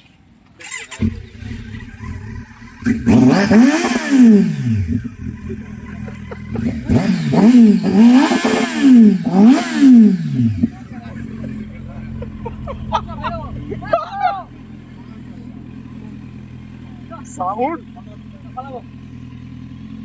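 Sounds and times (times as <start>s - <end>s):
motorcycle engine idling: 0.2s - 20.0s
engine revving: 0.6s - 20.0s.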